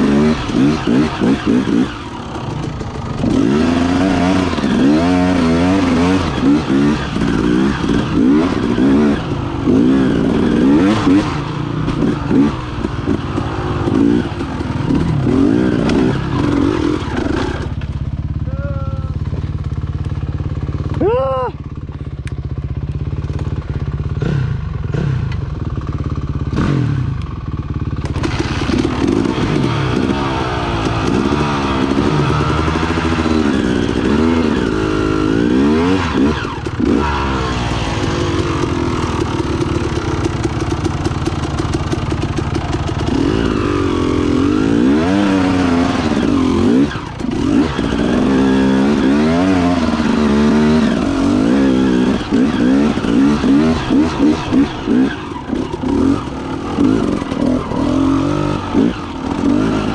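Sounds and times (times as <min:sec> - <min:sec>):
dirt bike engine revving: 0:00.0 - 0:21.8, 0:22.6 - 0:59.9.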